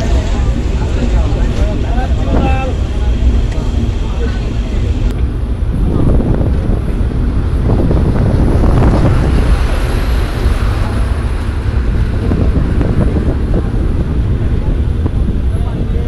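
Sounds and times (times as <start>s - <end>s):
rushing air: 0.0s - 16.0s
train wheels rumbling on rails: 0.0s - 16.0s.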